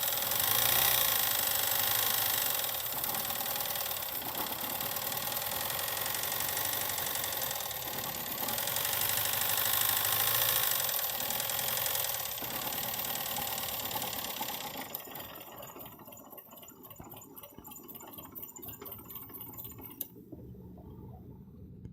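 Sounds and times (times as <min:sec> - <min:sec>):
rapid engine ticking: 0:00.0 - 0:20.1.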